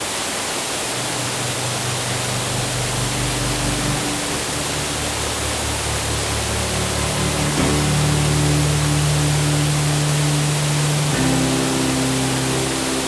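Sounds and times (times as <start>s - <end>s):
waterfall roaring: 0.0s - 13.0s
low sustained music notes: 0.8s - 13.0s.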